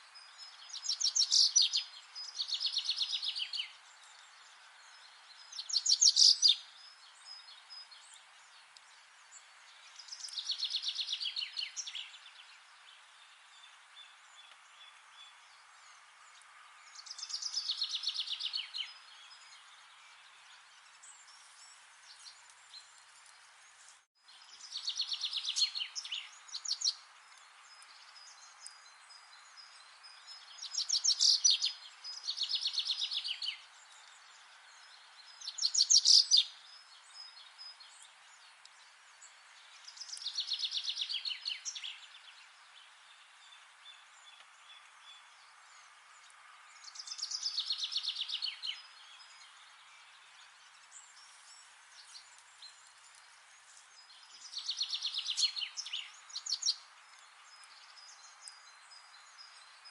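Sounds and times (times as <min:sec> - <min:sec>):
soft steady hiss: 0:00.0 - 0:59.9.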